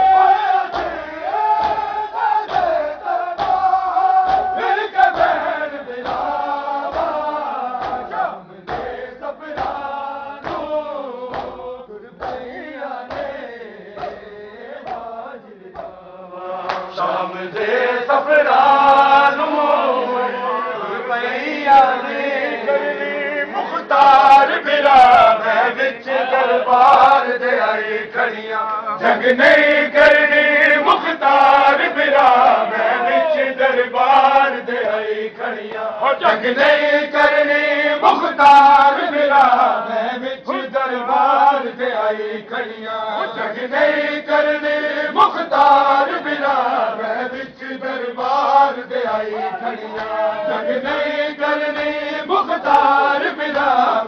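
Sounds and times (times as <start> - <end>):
men chanting a lament in unison: 0.0 - 54.0.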